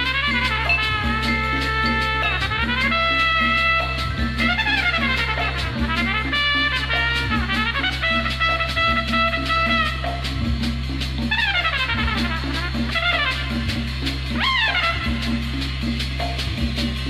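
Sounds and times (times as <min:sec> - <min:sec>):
bass line: 0:00.0 - 0:17.0
brass notes and glides: 0:00.0 - 0:17.0
drums: 0:00.0 - 0:17.0.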